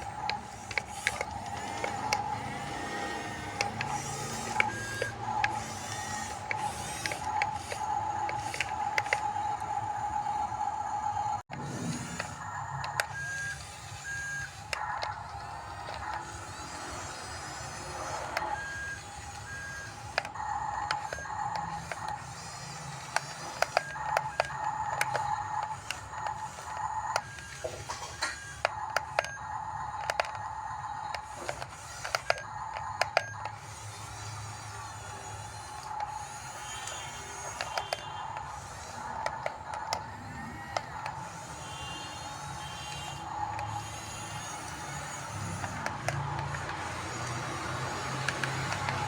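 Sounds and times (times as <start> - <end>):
small electric motors whining: 0.0 - 49.0.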